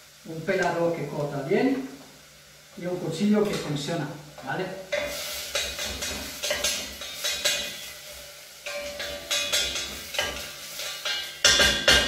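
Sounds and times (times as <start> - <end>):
onions sizzling: 0.0 - 12.0.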